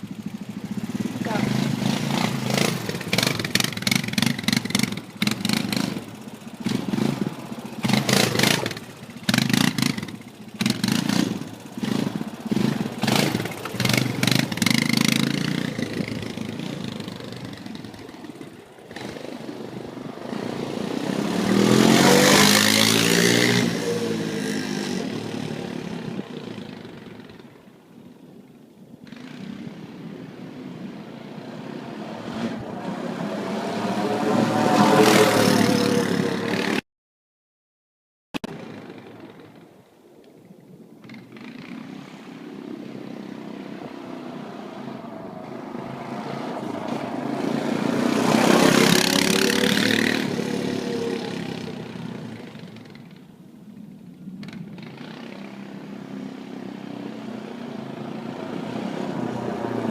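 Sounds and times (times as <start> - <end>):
atv engine revving: 0.0 - 27.7, 29.0 - 36.8, 38.4 - 39.8, 41.0 - 53.4, 54.2 - 59.9
atv passing by: 0.0 - 28.2, 29.0 - 36.8, 41.0 - 53.3, 54.4 - 59.9.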